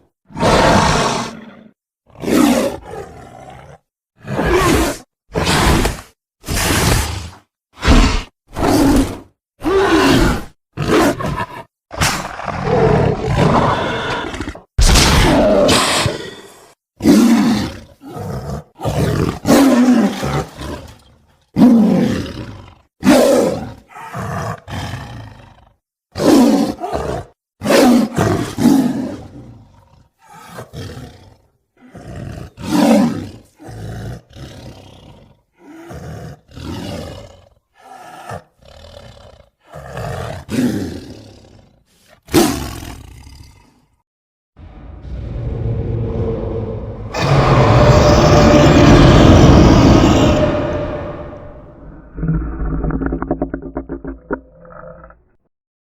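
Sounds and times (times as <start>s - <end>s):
dinosaur roars and growls: 0.3s - 7.1s, 7.8s - 41.6s, 44.6s - 55.4s.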